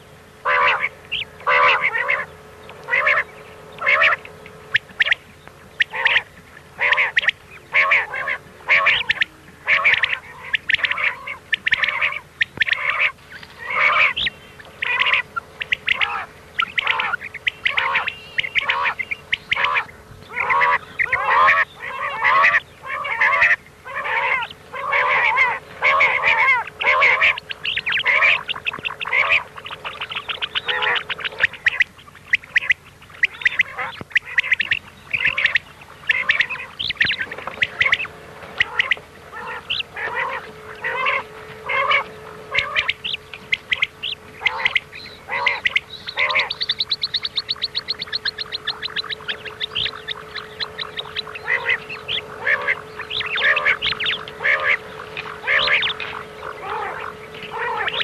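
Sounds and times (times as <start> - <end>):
faint steady hum: 0.0 - 58.0
recorded quail calls: 0.0 - 58.0.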